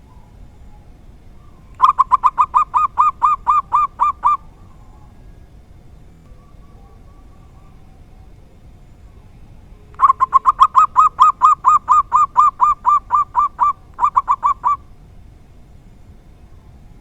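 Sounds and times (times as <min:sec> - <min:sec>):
dove calling in clipped notes: 0:00.0 - 0:17.0.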